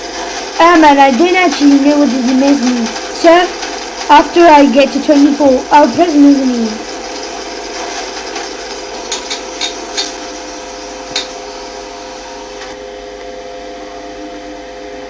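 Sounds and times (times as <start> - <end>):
lift humming: 0.0 - 15.0.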